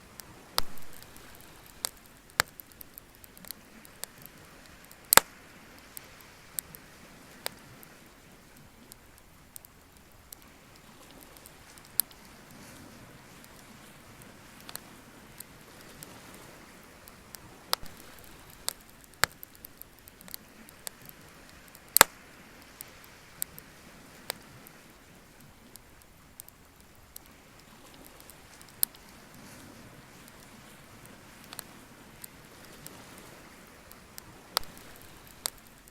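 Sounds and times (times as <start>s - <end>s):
bonfire crackling and popping: 0.0s - 35.9s
faint hiss: 0.0s - 35.9s.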